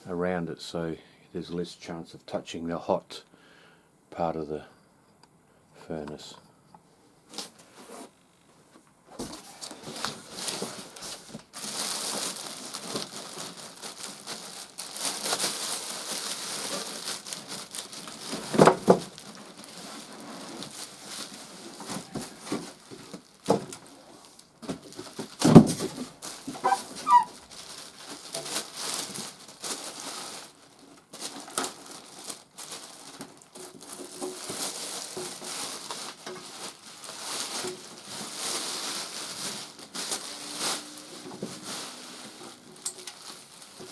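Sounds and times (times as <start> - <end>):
plastic and foam crinkling: 7.3 - 43.9.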